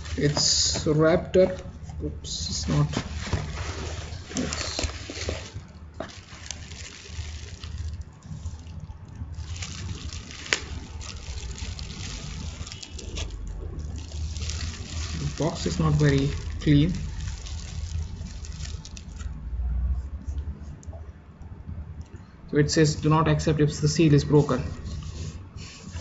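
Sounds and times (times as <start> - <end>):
bubble wrap crinkling: 0.0 - 19.6, 23.9 - 26.0.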